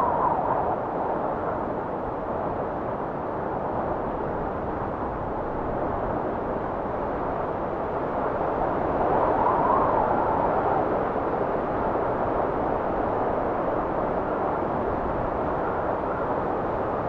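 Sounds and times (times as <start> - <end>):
blizzard wind whistling: 0.0 - 17.0.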